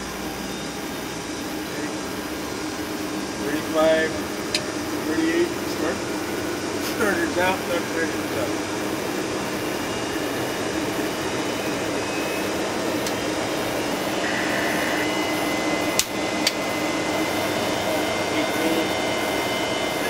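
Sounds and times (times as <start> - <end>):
jet engine cockpit noise: 0.0 - 20.0
thin high whine: 0.0 - 20.0.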